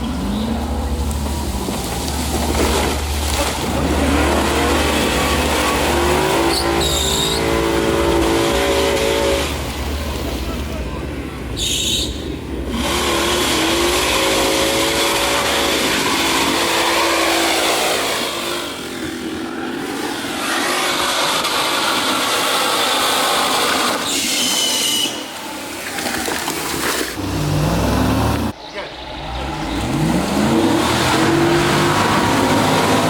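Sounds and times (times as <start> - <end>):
truck engine revving hard: 0.0 - 11.1, 12.5 - 24.1, 27.2 - 33.0.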